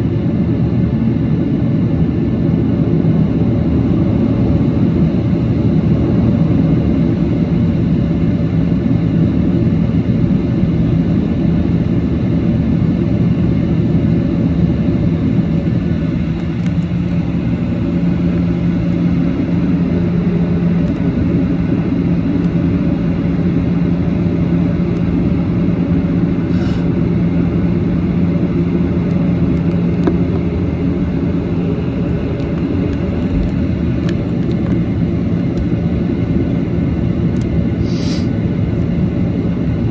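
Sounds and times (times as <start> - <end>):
jet engines running steadily: 0.0 - 39.9.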